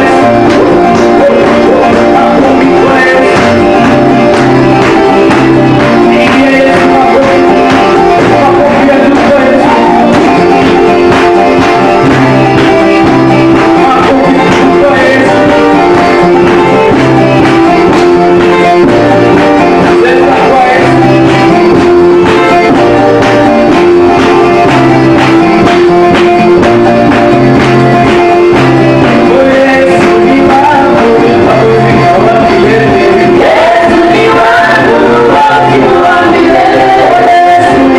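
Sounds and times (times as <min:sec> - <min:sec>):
worship singing with band: 0:00.0 - 0:23.8, 0:28.9 - 0:37.9
repeating bass line: 0:00.0 - 0:37.9.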